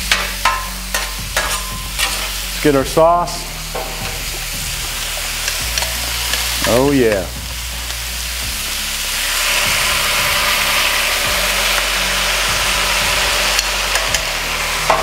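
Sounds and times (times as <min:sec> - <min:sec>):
sauce sizzling on hot griddle: 0:00.0 - 0:15.0.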